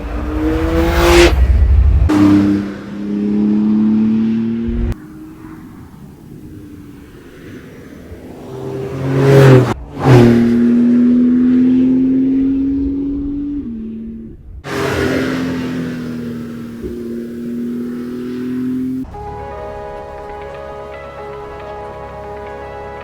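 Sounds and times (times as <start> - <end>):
car engine accelerating: 0.0 - 22.7.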